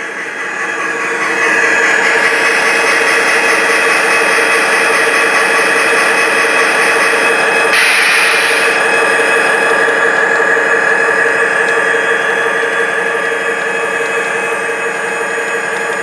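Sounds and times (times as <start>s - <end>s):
model train motor whine and rumble: 0.0s - 16.0s.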